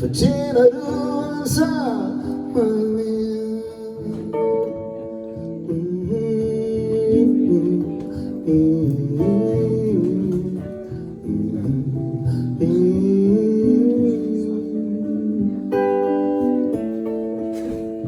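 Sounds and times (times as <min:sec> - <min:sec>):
acoustic guitar ballad: 0:00.0 - 0:18.0.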